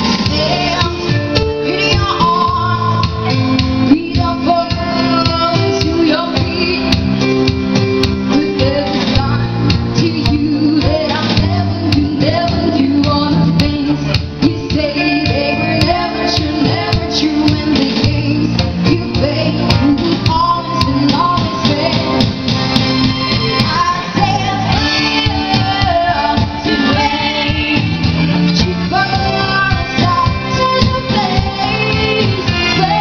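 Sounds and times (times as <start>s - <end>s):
band with guitar and bass: 0.0s - 33.0s
women singing pop ballad: 0.0s - 33.0s.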